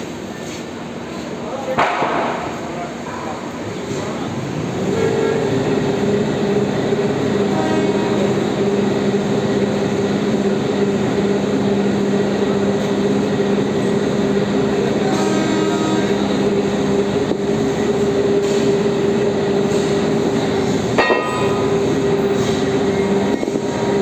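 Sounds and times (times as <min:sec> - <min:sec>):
heavy machinery droning: 0:03.8 - 0:24.0.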